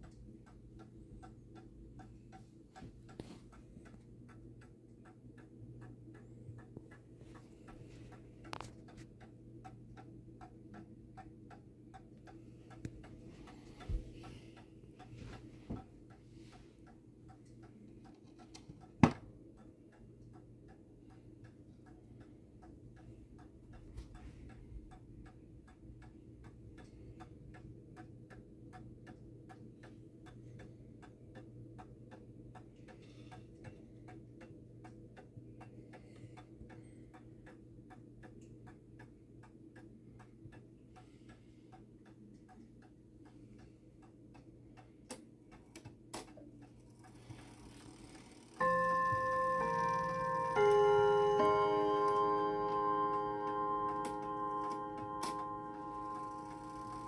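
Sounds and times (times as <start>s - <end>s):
mantel clock ticking: 0.0s - 57.0s.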